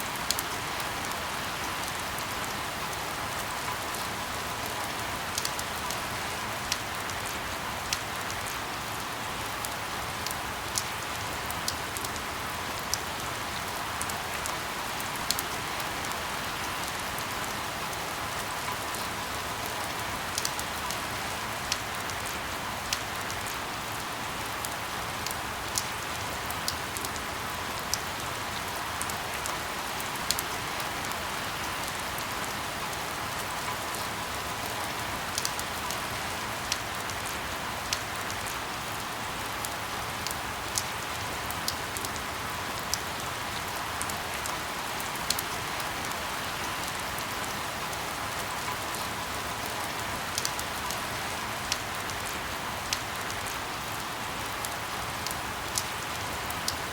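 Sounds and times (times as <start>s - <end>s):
steady rain hissing: 0.0s - 56.9s.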